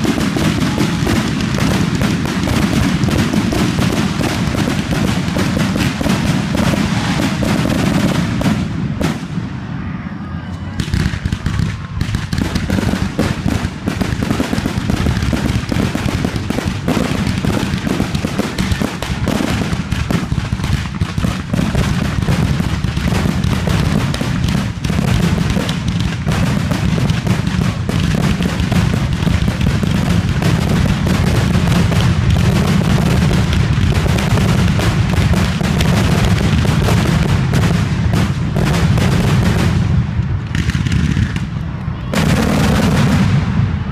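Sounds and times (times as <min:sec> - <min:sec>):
fireworks booming and crackling: 0:00.0 - 0:09.9, 0:10.7 - 0:43.9.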